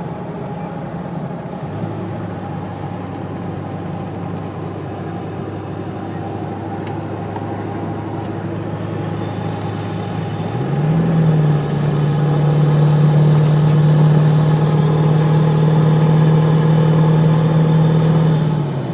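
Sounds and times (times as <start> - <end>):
diesel engine revving: 0.0 - 18.9.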